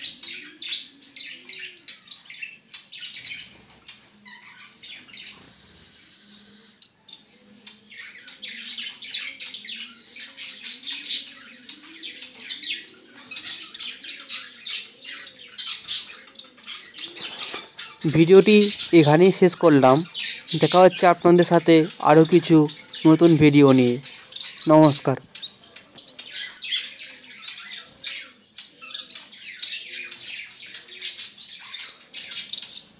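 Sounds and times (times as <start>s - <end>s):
finches chirping: 0.0s - 32.9s.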